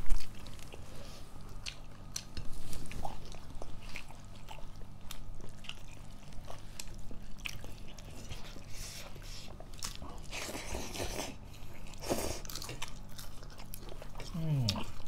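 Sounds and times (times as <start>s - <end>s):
chewing and biting: 0.0s - 15.0s.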